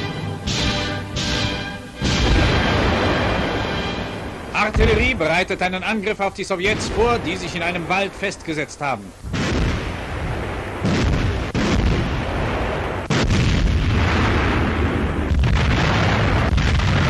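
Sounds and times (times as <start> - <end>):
artillery booms and explosions: 0.0 - 8.6, 9.2 - 17.0.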